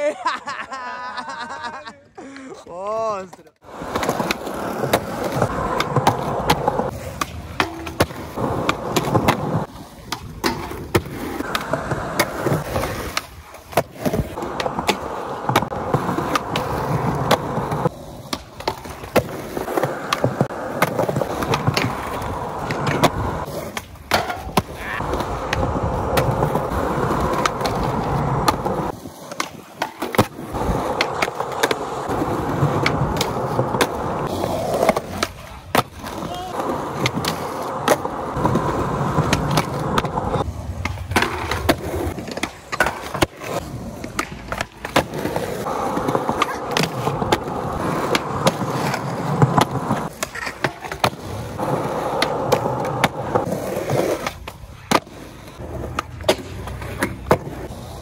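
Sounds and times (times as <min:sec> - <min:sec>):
skateboard wheels rolling on concrete: 0:00.0 - 0:58.0
skateboard clacking on ground: 0:03.2 - 0:58.0.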